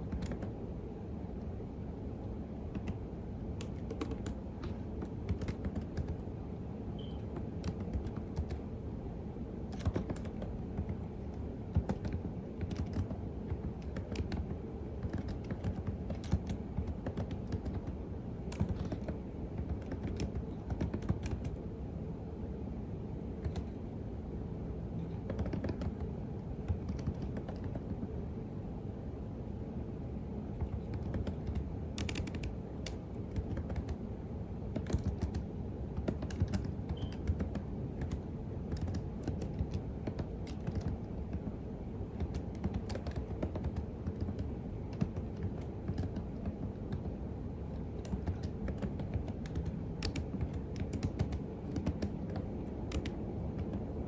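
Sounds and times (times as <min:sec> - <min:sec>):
typing on computer keyboard: 0:00.0 - 0:00.6, 0:02.7 - 0:06.3, 0:07.0 - 0:08.7, 0:09.7 - 0:21.6, 0:23.4 - 0:23.8, 0:25.0 - 0:28.1, 0:30.6 - 0:54.0
low background noise: 0:00.0 - 0:54.0.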